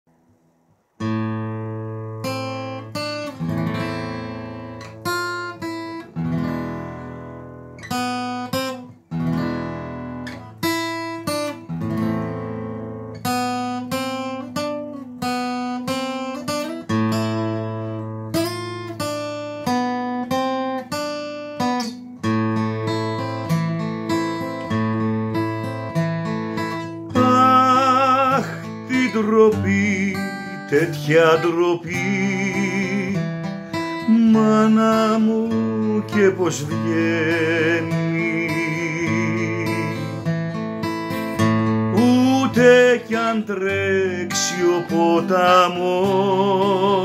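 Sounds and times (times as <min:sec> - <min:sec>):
acoustic guitar chords: 0:00.1 - 0:47.0.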